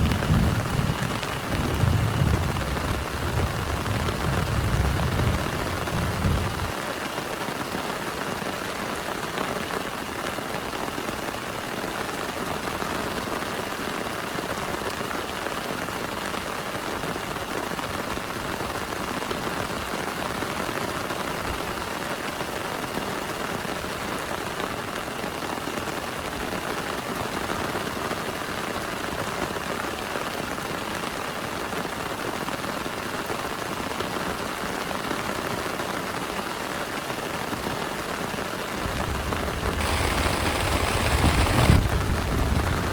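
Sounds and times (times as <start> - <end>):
heavy rain on plastic tarp: 0.0 - 42.9.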